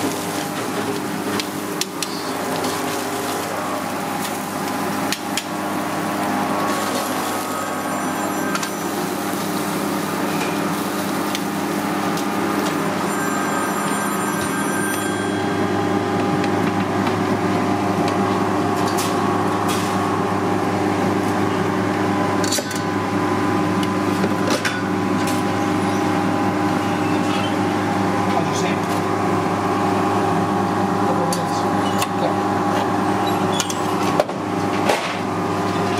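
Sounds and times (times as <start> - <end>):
kitchen machinery hum: 0.0 - 35.9.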